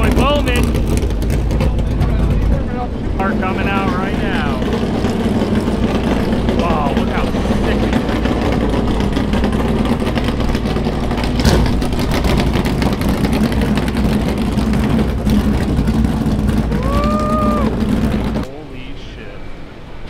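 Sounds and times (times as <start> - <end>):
loud engine drone: 0.0 - 20.0.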